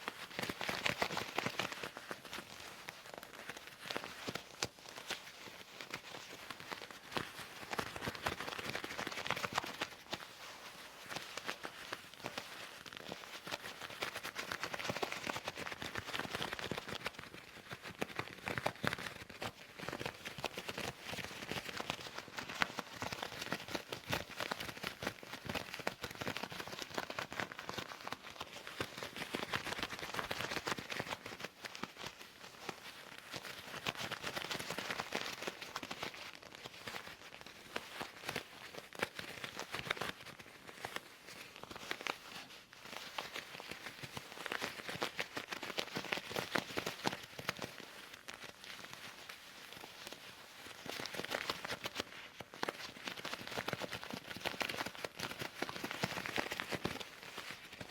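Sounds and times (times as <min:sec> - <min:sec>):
leather gloves rubbing and crackling: 0:00.0 - 0:57.9.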